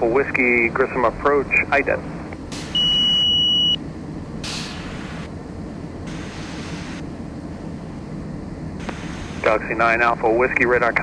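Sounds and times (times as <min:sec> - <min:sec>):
cockpit airflow and engine noise: 0:00.0 - 0:11.0.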